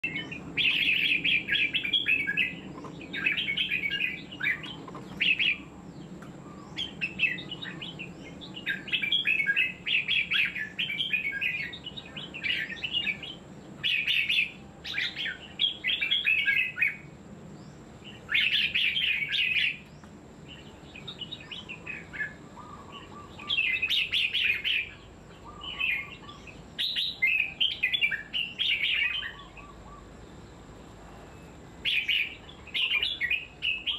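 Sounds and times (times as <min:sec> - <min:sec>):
bird chirping song: 0:00.0 - 0:33.9.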